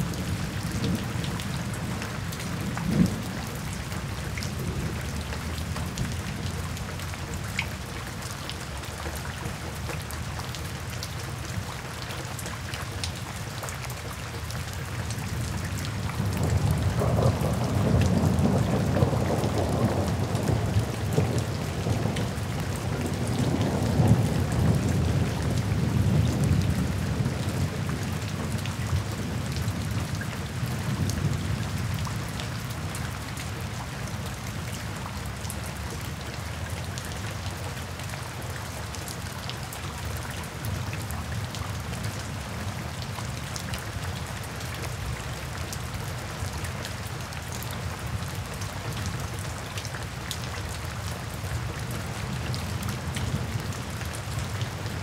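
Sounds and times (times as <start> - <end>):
rain splashing into puddles: 0.0 - 55.0.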